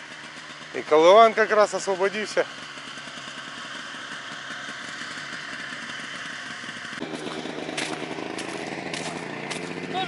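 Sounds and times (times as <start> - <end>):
snowmobile engine idling: 0.0 - 10.0
snowmobile engine running: 0.0 - 10.0.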